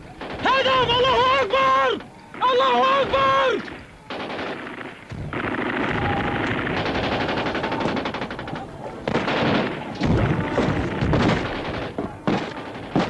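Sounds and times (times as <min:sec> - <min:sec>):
machine guns firing in bursts: 0:00.1 - 0:01.5, 0:02.3 - 0:13.0
heavy blasts: 0:02.4 - 0:13.0.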